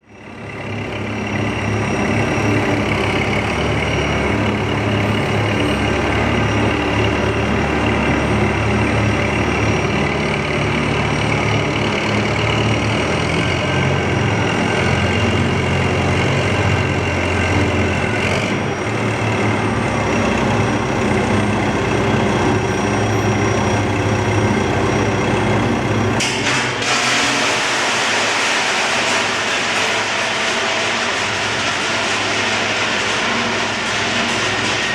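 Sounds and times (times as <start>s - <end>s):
heavy machinery hum with tones: 0.1s - 34.9s.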